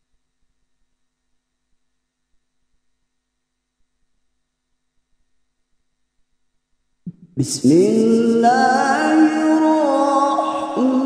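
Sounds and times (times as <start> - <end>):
faint background hiss: 0.0 - 11.0
low steady hum: 0.0 - 11.0.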